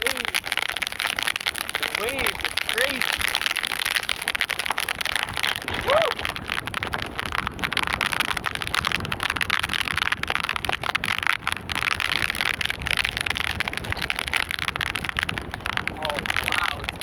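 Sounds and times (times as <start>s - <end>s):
heavy rain: 0.0s - 17.0s
wind rumbling on microphone: 0.0s - 17.0s.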